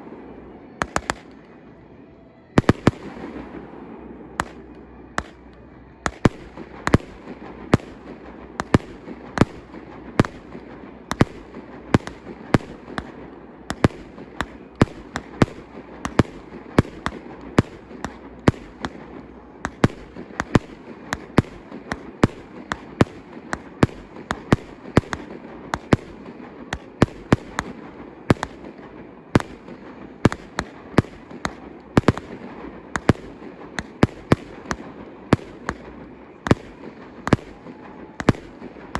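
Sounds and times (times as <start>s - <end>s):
fireworks sharp bangs: 0.0s - 1.6s, 2.6s - 38.9s
steady background noise: 0.0s - 38.9s.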